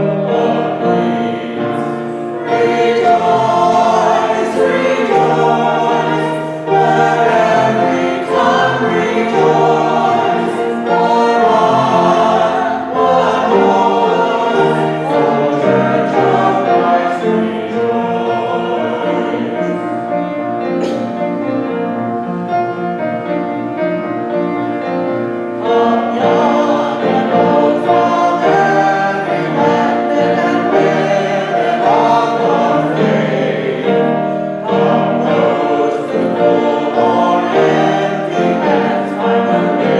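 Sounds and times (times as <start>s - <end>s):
group singing worship song: 0.0s - 21.5s, 24.9s - 39.9s
musical accompaniment: 0.0s - 39.9s.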